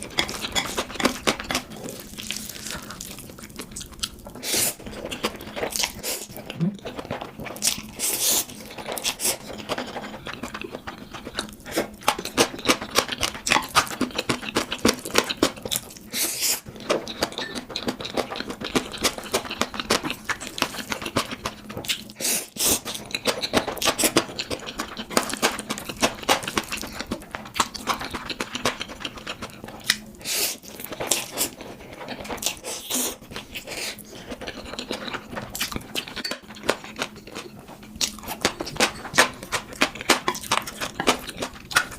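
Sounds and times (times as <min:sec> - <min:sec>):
chewing and slurping noodles: 0:00.0 - 0:41.9.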